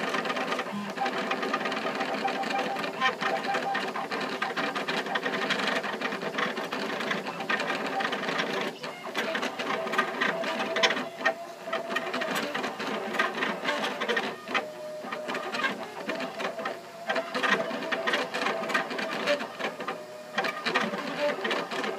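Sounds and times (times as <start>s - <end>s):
stepper motors whining: 0.0s - 21.9s.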